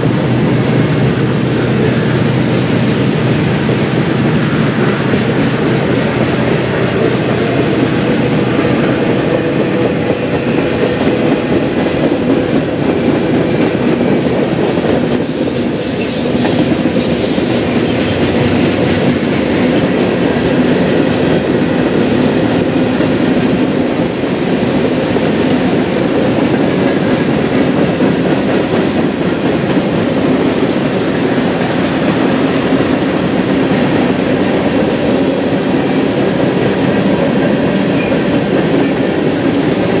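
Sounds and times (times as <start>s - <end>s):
freight train cars rolling past: 0.0s - 40.0s
wheels clacking over rail joints: 0.2s - 40.0s.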